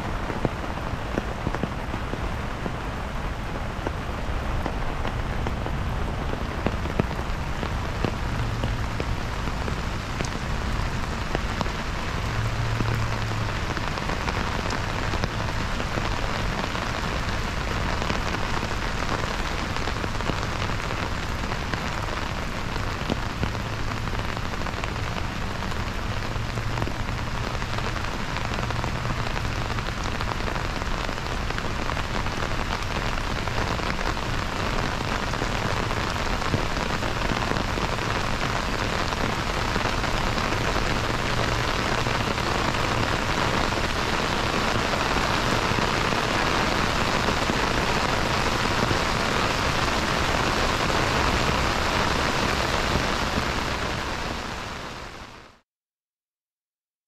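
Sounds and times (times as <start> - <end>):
heavy rain on water: 0.0 - 55.6.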